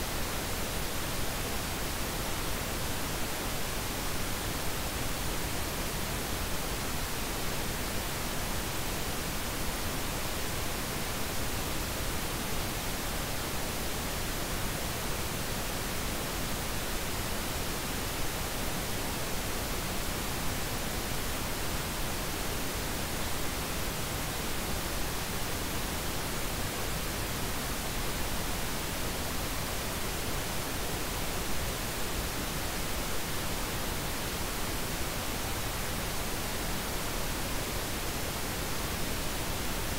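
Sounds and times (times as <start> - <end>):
steady hiss noise: 0.0 - 39.9.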